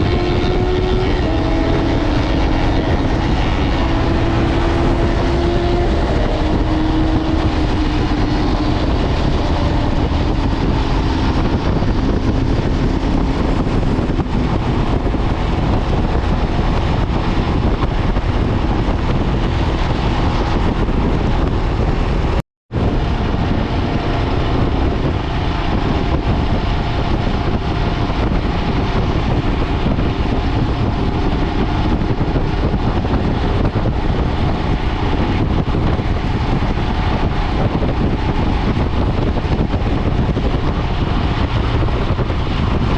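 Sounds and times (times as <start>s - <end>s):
motorcycle engine and road noise: 0.0s - 42.9s
wind rush on microphone: 0.0s - 42.9s.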